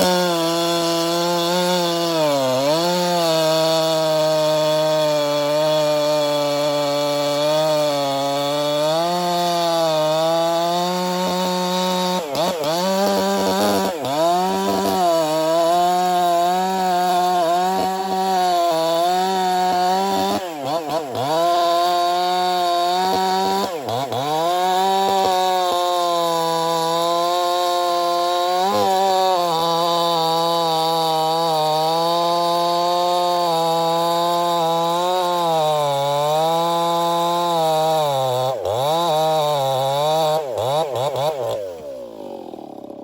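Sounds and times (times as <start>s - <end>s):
chainsaw cutting logs: 0.0s - 43.0s.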